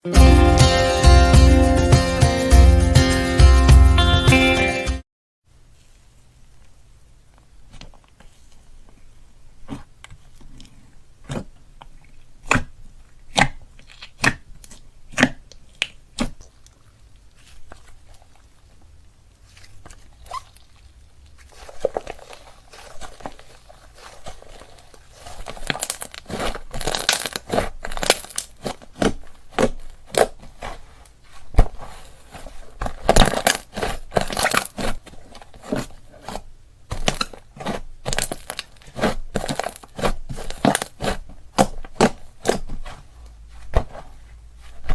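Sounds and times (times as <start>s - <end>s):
slime squishing with sticky pops: 6.4s - 44.9s.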